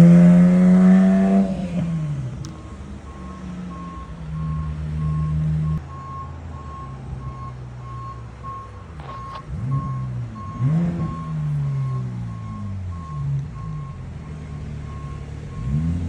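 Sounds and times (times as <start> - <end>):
reversing alarm beeping: 0.0 - 16.0
vehicle engine running low: 0.0 - 16.0.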